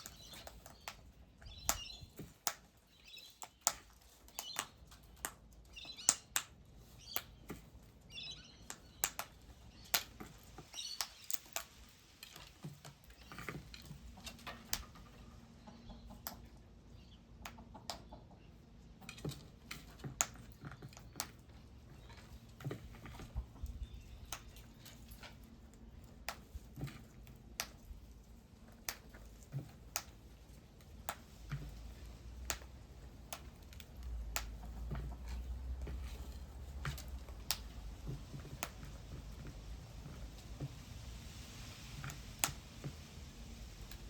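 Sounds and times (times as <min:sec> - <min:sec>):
birds pecking at seed: 0:00.0 - 0:44.0.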